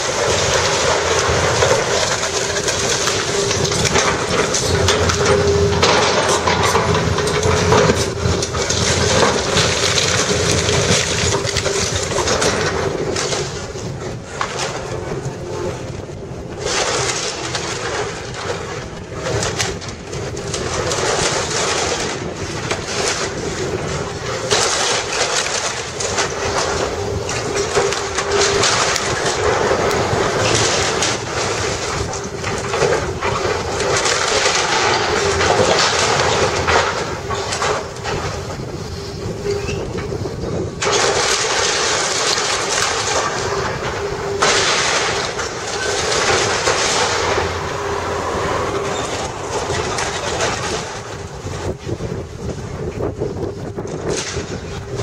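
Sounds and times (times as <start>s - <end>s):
wood splintering and debris falling: 0.0s - 15.3s, 16.5s - 38.6s, 40.8s - 53.0s, 53.6s - 55.0s
excavator engine and hydraulics hum: 0.0s - 55.0s.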